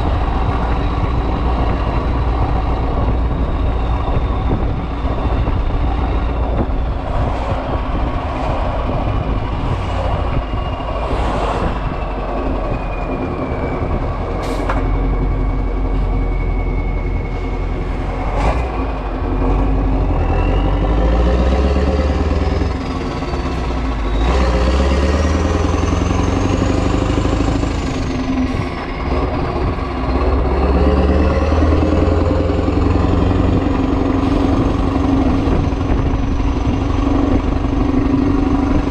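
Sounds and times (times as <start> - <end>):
diesel engine under load: 0.0 - 38.9.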